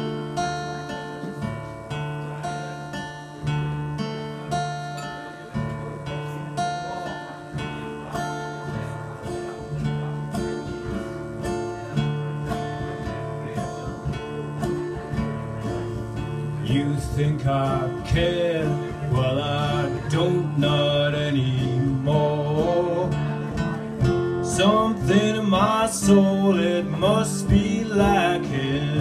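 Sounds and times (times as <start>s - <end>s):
acoustic guitars strumming chords: 0.0s - 29.0s.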